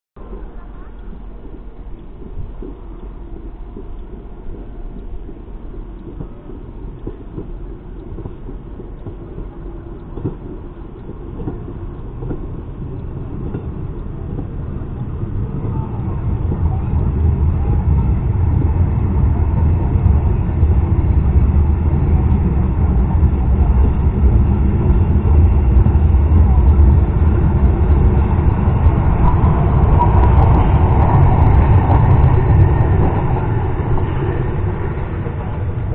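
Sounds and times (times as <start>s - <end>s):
train wheels rumbling on rails: 0.2s - 35.9s.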